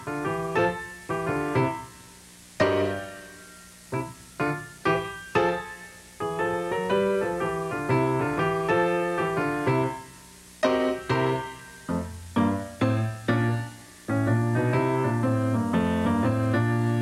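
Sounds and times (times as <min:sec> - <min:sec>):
piano notes: 0:00.0 - 0:17.0.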